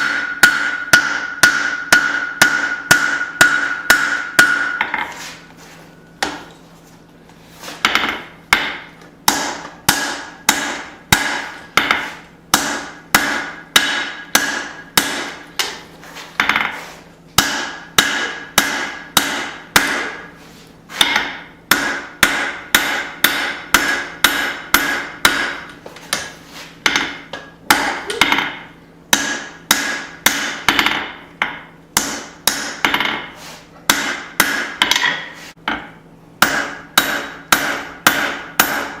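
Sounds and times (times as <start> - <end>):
hammer striking steel on anvil: 0.0 - 5.2, 7.8 - 15.8, 17.4 - 20.4, 21.0 - 39.0.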